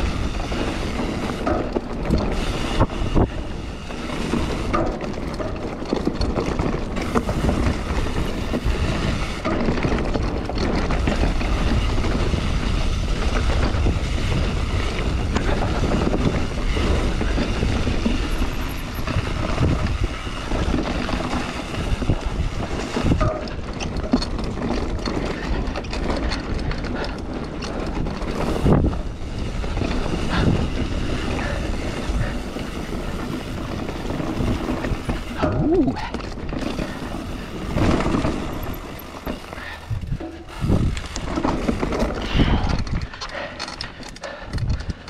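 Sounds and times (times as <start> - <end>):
bike knocking and rattling: 0.0 - 45.0
wind rushing over microphone: 0.0 - 45.0.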